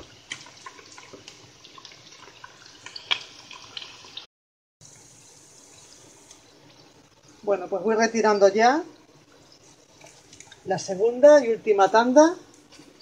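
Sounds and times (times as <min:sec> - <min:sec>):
meat frying in oil: 0:00.0 - 0:11.2.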